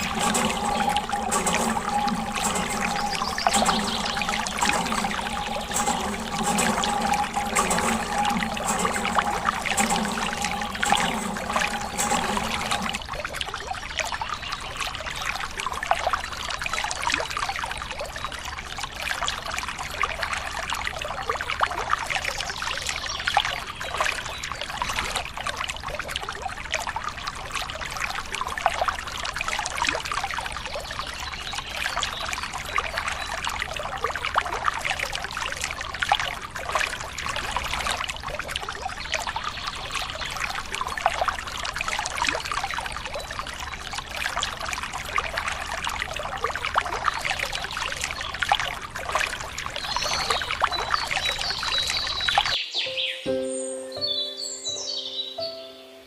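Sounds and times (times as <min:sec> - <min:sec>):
small water splashes: 0:00.0 - 0:52.6
water pouring and trickling: 0:00.0 - 0:52.6.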